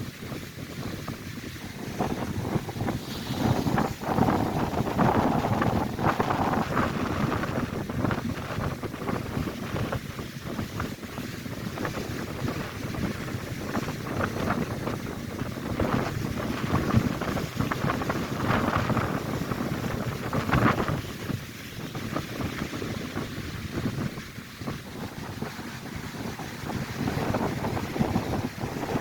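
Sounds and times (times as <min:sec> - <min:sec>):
gusty wind on microphone: 0:00.0 - 0:29.0
waves crashing on shore: 0:00.0 - 0:29.0.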